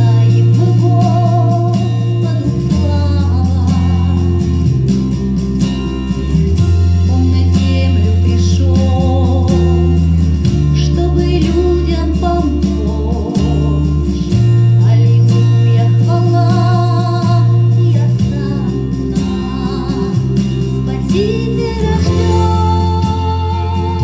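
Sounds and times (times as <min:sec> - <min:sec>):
person singing: 0:00.0 - 0:04.7, 0:07.0 - 0:24.0
instrumental backing with bass: 0:00.0 - 0:24.0.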